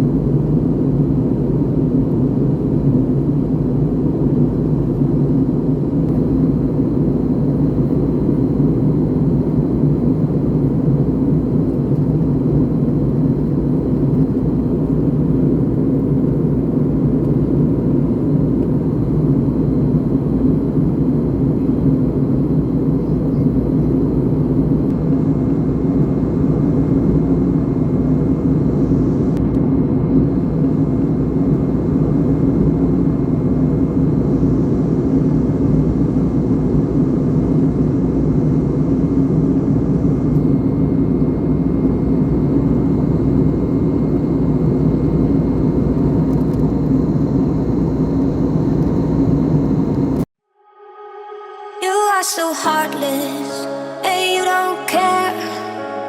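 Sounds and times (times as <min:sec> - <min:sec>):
faint steady whines: 0:00.0 - 0:56.0.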